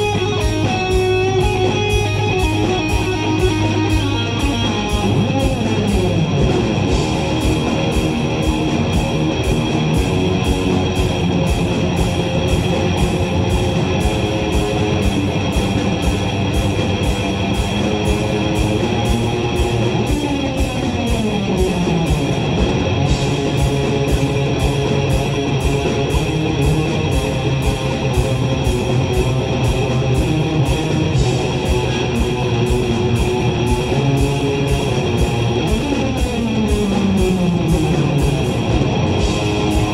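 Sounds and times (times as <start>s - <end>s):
lead electric guitar: 0.0s - 39.9s
rock band playing: 0.0s - 39.9s.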